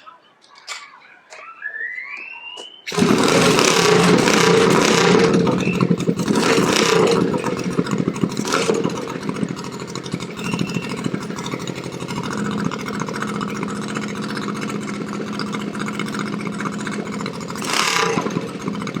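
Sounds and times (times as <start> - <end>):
single-cylinder engine running: 2.9 - 19.0.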